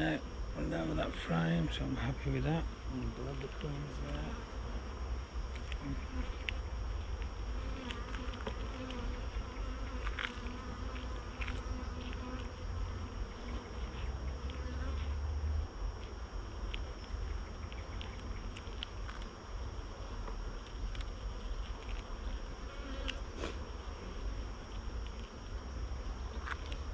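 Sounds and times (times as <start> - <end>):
honeybees buzzing: 0.0 - 26.9.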